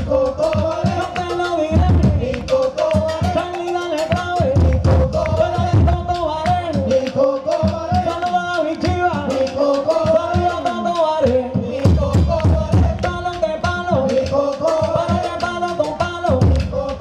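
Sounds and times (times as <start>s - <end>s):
hand-struck barrel drums: 0.0s - 17.0s
voices singing a held melody: 0.0s - 17.0s.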